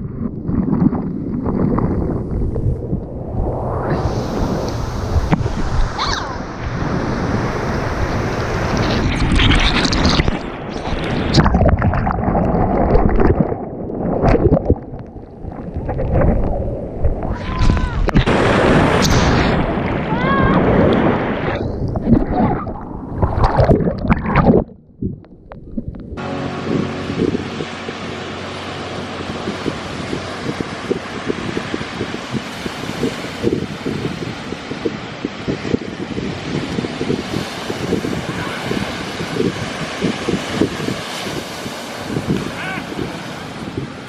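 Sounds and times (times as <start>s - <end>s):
wind buffeting microphone: 0.0s - 44.0s
ocean surf breaking on shore: 1.1s - 14.5s, 15.4s - 23.7s, 26.2s - 44.0s.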